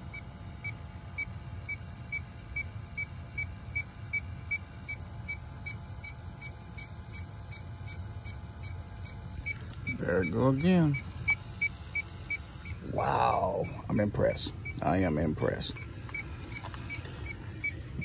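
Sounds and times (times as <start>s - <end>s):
leak detector beeping: 0.0s - 18.0s.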